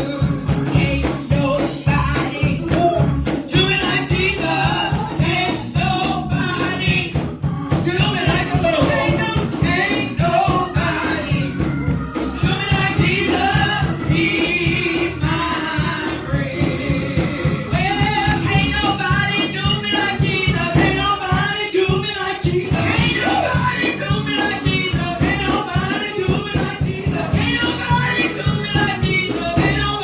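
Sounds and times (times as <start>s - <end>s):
band with driving percussion: 0.0s - 30.0s
group gospel singing: 0.0s - 30.0s.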